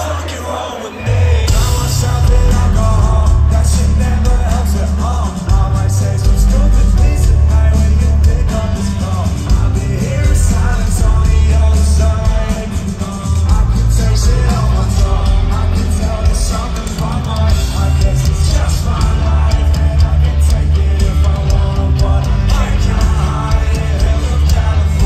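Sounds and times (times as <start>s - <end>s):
man singing into microphone: 0.0s - 25.0s
live rock band playing: 0.9s - 25.0s.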